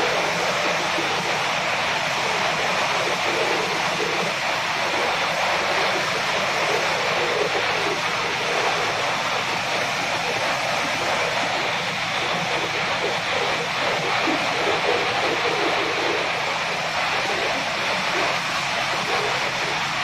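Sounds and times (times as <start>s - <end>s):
machinery noise: 0.0s - 20.0s.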